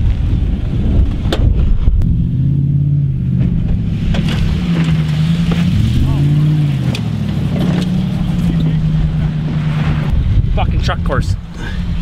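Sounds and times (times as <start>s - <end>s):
pickup truck engine rumbling: 0.0s - 12.0s.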